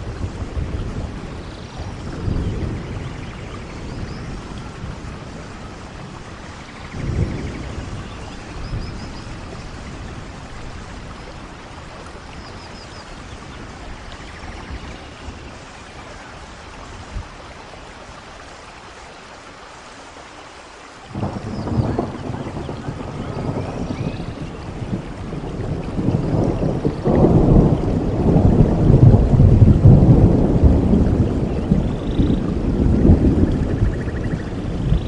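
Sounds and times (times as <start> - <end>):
thunder rumbles: 0.0 - 18.2, 21.1 - 35.0
steady rain: 0.0 - 35.0.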